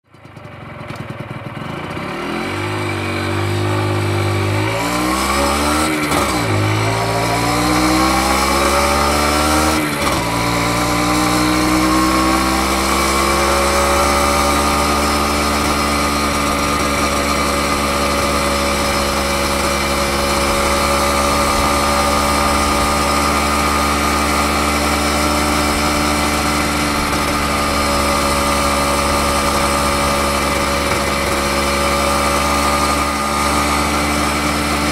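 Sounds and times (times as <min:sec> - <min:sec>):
moped engine accelerating: 0:00.0 - 0:34.9.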